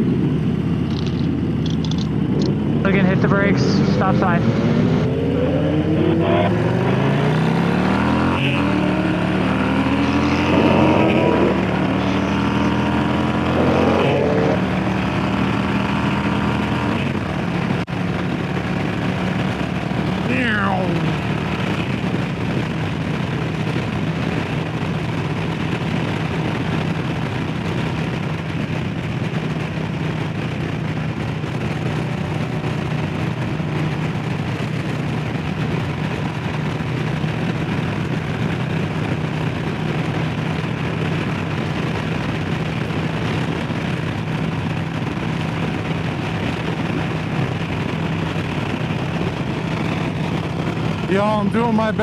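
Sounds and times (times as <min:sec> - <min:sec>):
motorcycle engine cruising: 0:00.0 - 0:52.0
road and wind noise: 0:00.0 - 0:52.0.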